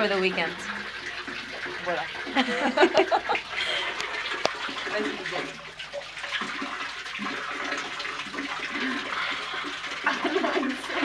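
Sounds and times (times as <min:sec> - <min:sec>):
water running from spout: 0:00.0 - 0:11.0.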